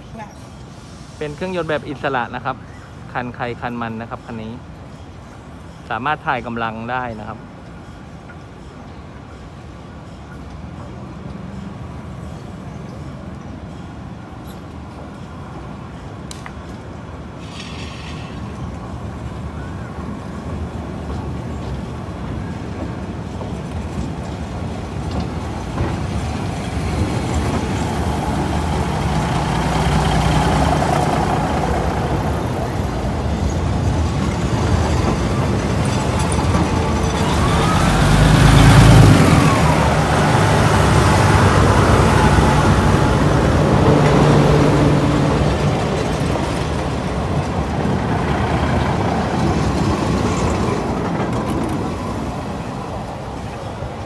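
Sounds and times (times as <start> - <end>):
diesel train engine drone: 7.3 - 54.0.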